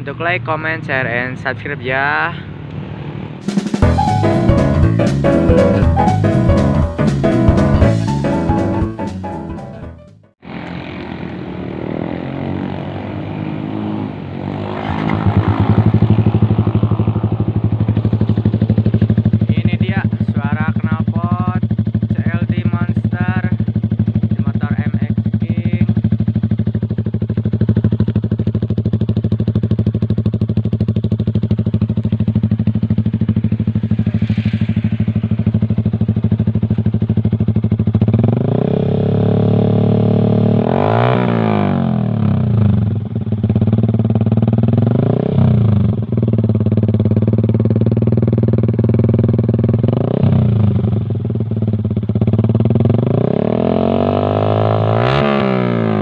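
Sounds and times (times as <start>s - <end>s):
motorcycle engine idling and revving: 0.0s - 9.6s, 10.2s - 56.0s.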